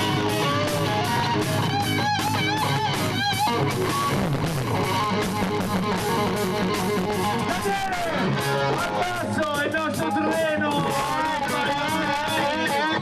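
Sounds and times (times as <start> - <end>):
electric guitar lead: 0.0 - 13.0
steady drum beat: 0.0 - 13.0.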